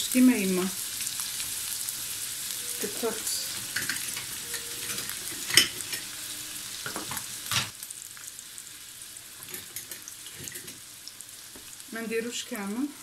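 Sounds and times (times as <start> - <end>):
sausage sizzling in oil: 0.0 - 13.0.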